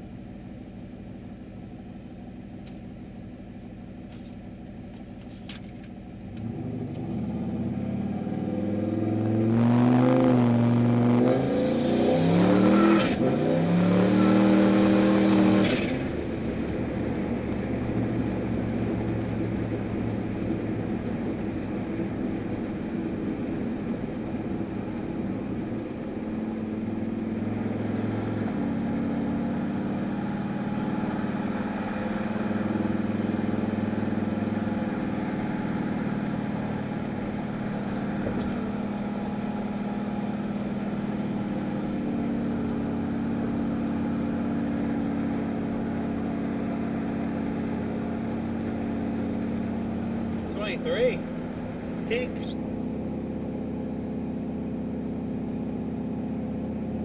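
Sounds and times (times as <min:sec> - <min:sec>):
truck engine accelerating: 0:04.1 - 0:57.0.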